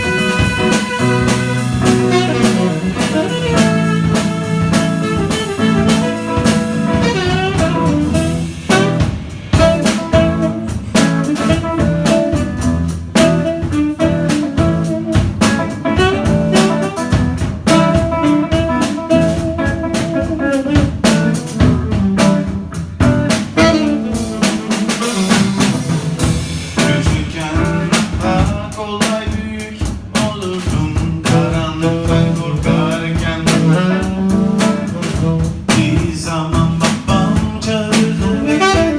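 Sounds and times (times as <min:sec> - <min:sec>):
saxophone playing: 0:00.0 - 0:28.5, 0:31.2 - 0:35.8, 0:38.0 - 0:38.9
drum kit: 0:00.0 - 0:38.9
guitar: 0:00.0 - 0:38.9.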